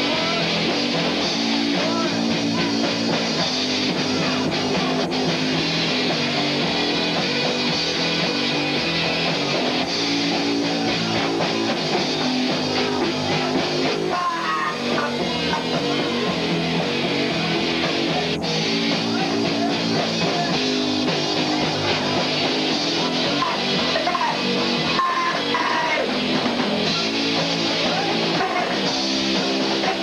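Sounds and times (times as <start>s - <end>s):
drum kit: 0.0s - 30.0s
electric guitars: 0.0s - 30.0s.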